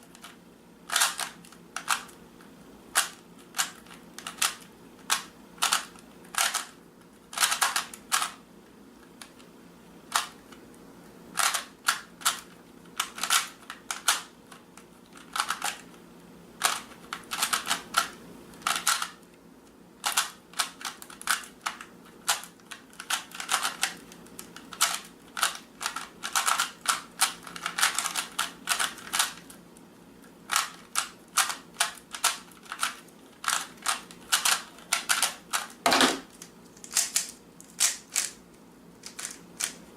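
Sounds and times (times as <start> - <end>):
puzzle cube plastic clicks: 0.1 - 2.2, 2.9 - 8.4, 11.4 - 15.9, 16.6 - 19.2, 20.0 - 29.6, 30.5 - 38.4, 39.0 - 39.8.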